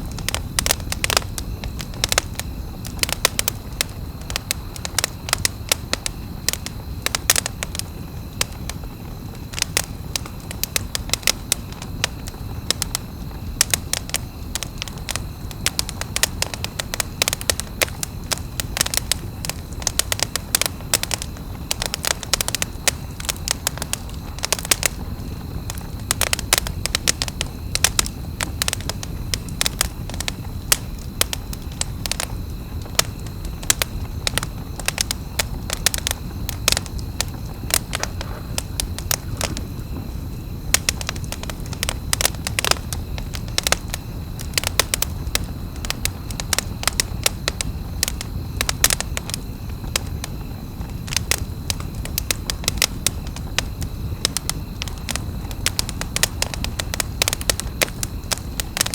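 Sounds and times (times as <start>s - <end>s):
campfire crackling and popping: 0.0s - 58.9s
low rumble of fire: 0.0s - 58.9s.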